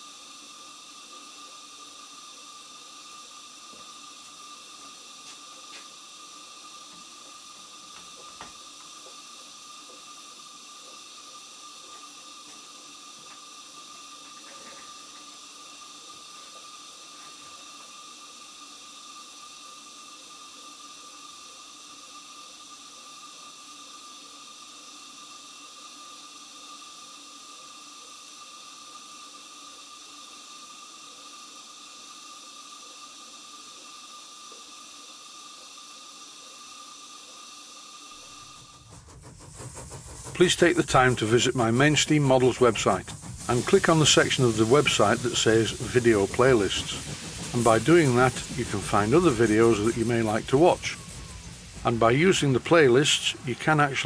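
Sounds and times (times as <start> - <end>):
steam hissing: 0.0 - 54.0.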